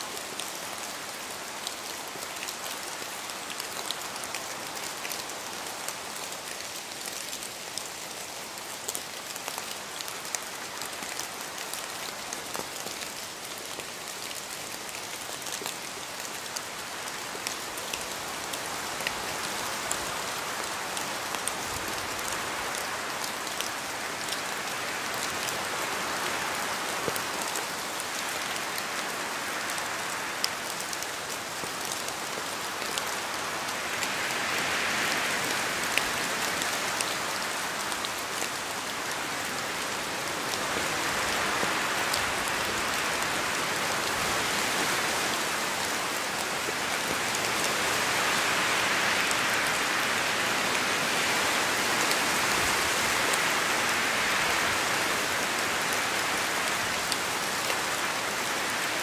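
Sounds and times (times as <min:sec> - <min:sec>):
rain hissing: 0:00.0 - 0:59.0
raindrops ticking on a surface: 0:00.0 - 0:59.0.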